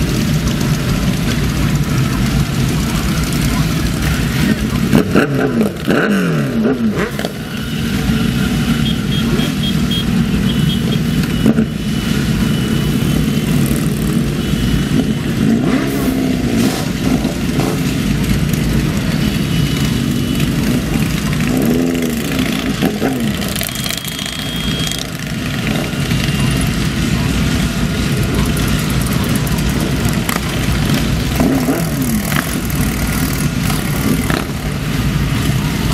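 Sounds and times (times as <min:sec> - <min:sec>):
group of motorcycle engines rumbling: 0:00.0 - 0:35.9
motorcycle throttle revs: 0:03.4 - 0:08.1, 0:11.4 - 0:35.9.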